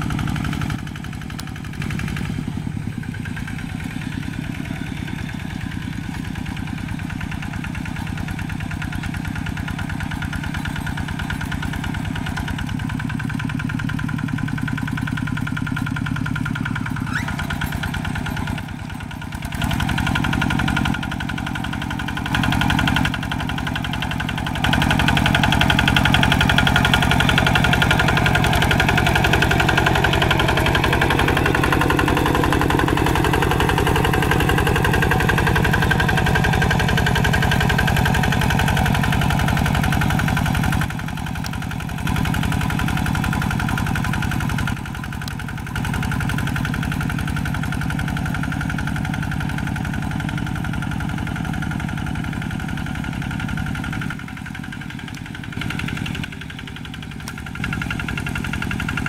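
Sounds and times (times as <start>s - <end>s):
diesel hand tractor engine running: 0.0s - 59.0s.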